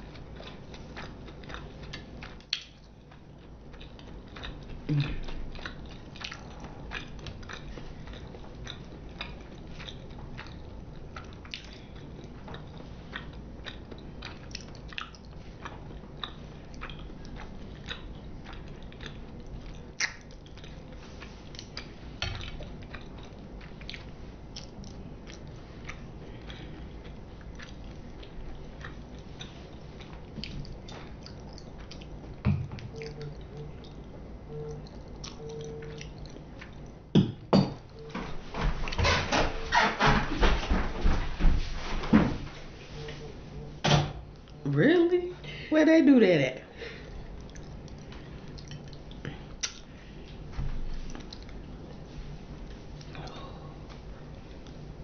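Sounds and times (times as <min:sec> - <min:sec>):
chewing with wet mouth clicks: 0:00.0 - 0:37.1, 0:44.3 - 0:44.6, 0:46.9 - 0:55.0.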